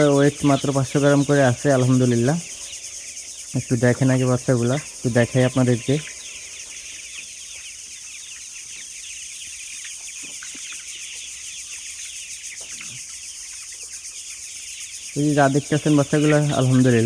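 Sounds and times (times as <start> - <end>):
chicken clucks: 0.0 - 17.0
chickens peeping: 0.0 - 17.0
steady high hiss: 0.0 - 17.0.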